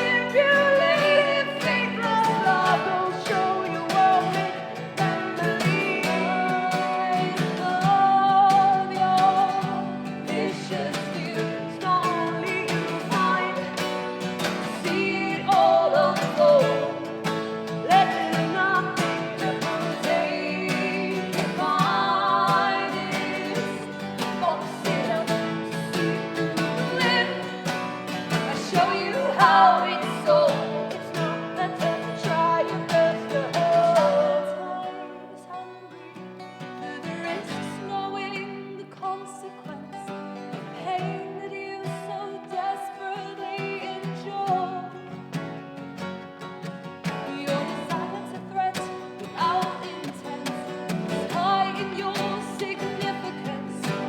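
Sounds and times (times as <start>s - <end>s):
person singing: 0.0s - 45.1s, 47.1s - 54.0s
acoustic guitars: 0.0s - 54.0s.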